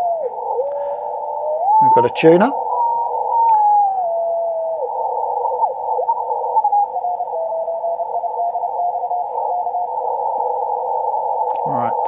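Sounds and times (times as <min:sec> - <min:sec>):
radio band hiss: 0:00.0 - 0:12.0.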